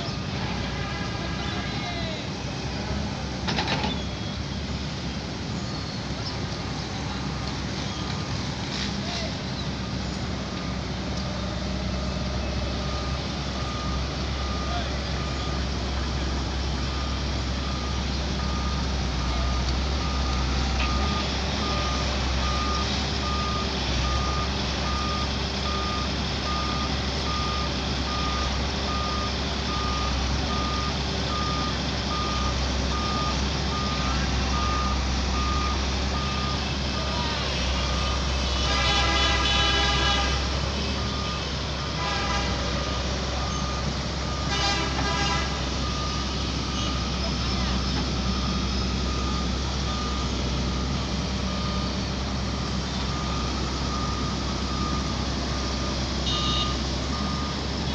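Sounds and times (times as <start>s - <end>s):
diesel engine running: 0.0s - 57.9s
reversing alarm beeping: 10.7s - 15.7s, 16.5s - 57.9s.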